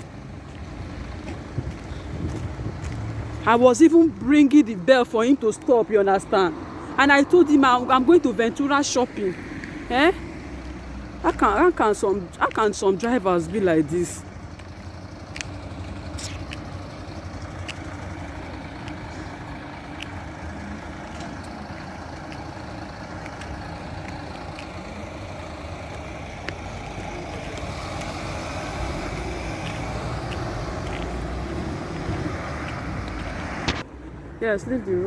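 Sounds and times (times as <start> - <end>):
rumble of passing traffic: 0.0 - 35.0.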